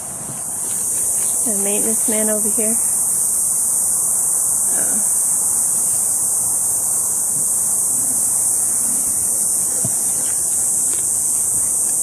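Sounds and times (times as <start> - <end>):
cicada chorus buzzing: 0.0 - 12.0.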